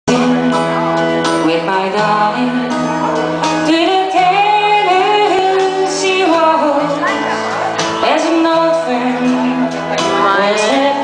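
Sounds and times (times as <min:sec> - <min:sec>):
woman singing: 0:00.1 - 0:00.7, 0:01.3 - 0:07.3, 0:07.9 - 0:11.0
live country-rock band: 0:00.1 - 0:11.0.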